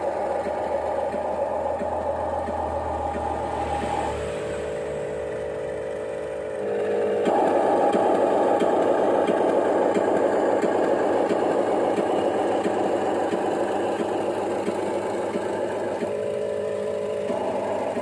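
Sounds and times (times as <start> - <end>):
mechanical whirring with rattle: 0.0 - 18.0.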